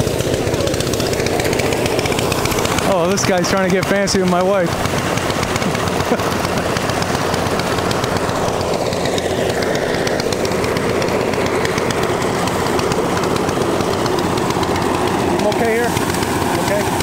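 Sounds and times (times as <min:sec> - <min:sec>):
rice thresher mechanical rattle: 0:00.0 - 0:17.0.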